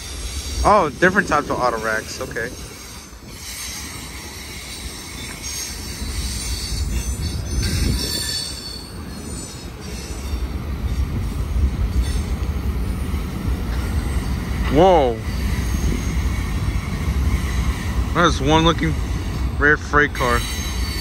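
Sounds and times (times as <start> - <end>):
freight train rumbling past: 0.0 - 21.0
train wheels squealing: 0.0 - 21.0.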